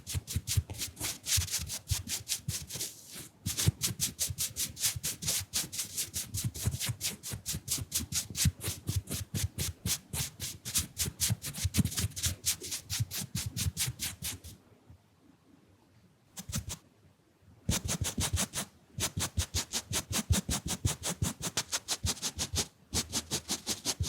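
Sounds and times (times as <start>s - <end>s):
makeup brush strokes: 0.0s - 9.4s, 10.0s - 14.5s, 16.4s - 16.8s, 17.7s - 24.0s.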